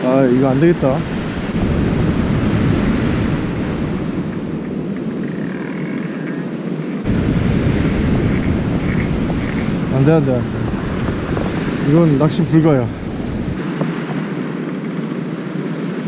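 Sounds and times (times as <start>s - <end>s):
surf breaking on beach: 0.0s - 5.2s, 7.0s - 16.0s
wind on microphone: 0.0s - 16.0s.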